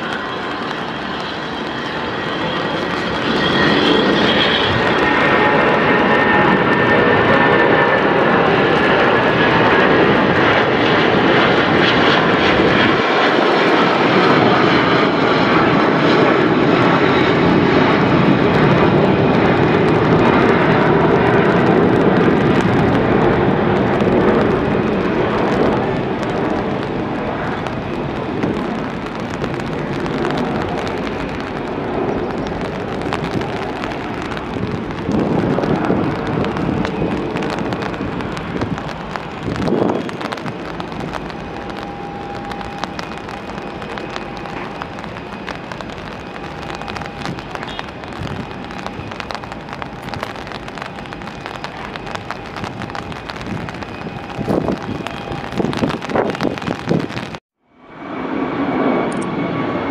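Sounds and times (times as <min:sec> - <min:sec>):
crackles: 0:00.0 - 0:57.4
jet engines at takeoff: 0:00.0 - 0:59.9.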